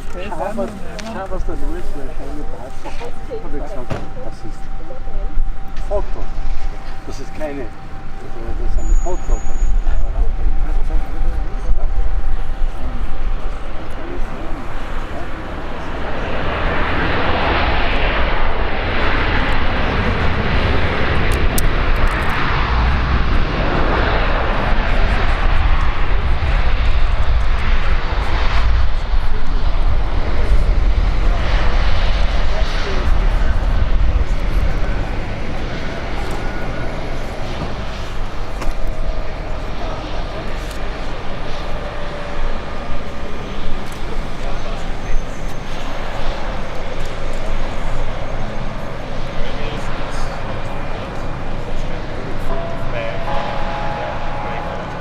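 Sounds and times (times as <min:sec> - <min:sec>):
faint engine whine: 0:00.0 - 0:55.0
jet airliner landing: 0:00.0 - 0:55.0.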